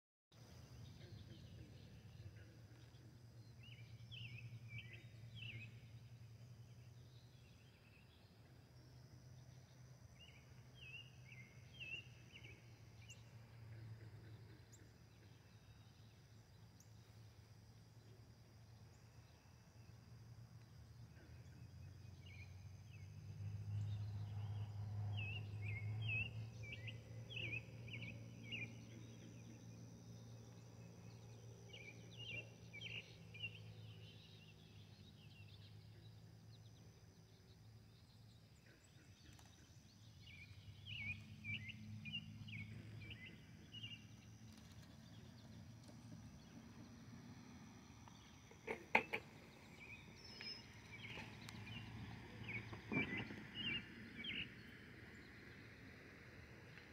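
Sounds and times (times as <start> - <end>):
songbirds chirping: 0.3 - 56.9.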